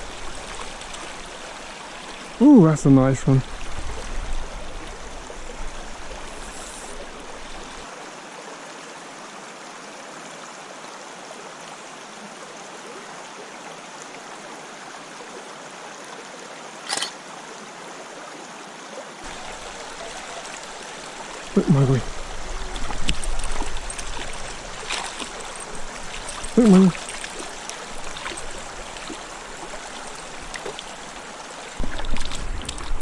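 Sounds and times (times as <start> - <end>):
creek water trickling: 0.0 - 33.0.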